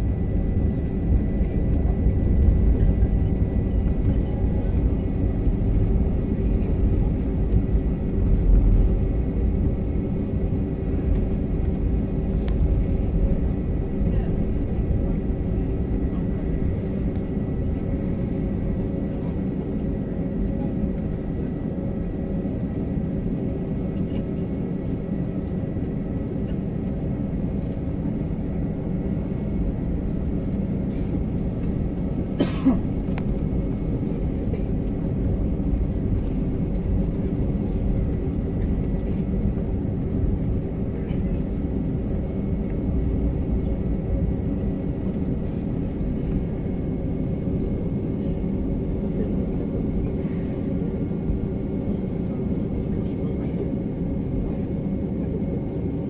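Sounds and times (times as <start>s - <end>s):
airplane cabin rumble and hum: 0.0s - 56.0s.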